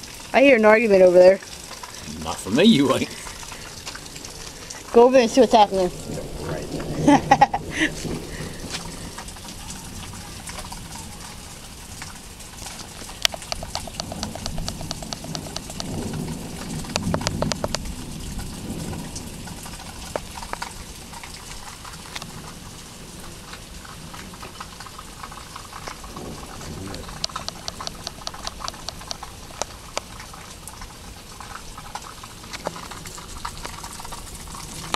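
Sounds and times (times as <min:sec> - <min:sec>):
drops pattering and dripping: 0:00.0 - 0:34.9
steady rain: 0:00.0 - 0:34.9.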